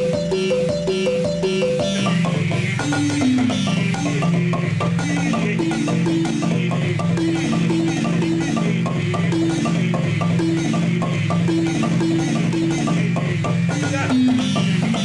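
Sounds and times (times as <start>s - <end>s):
wooden xylophone: 0.0s - 15.0s.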